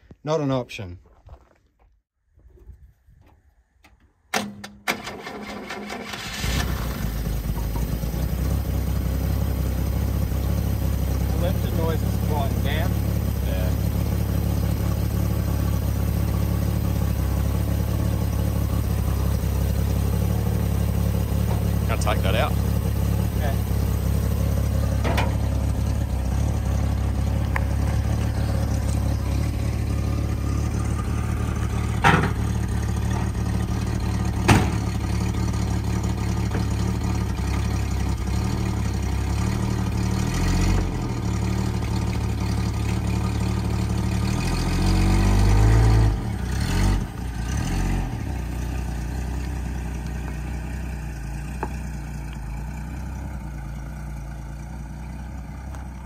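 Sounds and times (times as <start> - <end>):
car engine idling and revving: 5.8 - 56.0.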